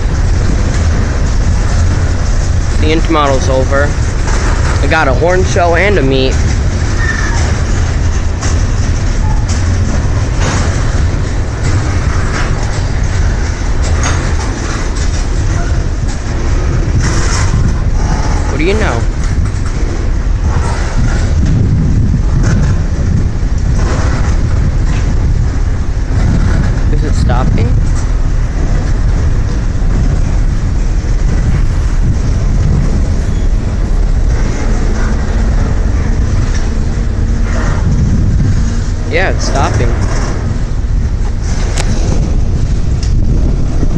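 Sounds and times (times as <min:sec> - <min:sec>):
freight train wheels rumbling: 0:00.0 - 0:43.9
wheels clacking over rail joints: 0:00.0 - 0:43.9.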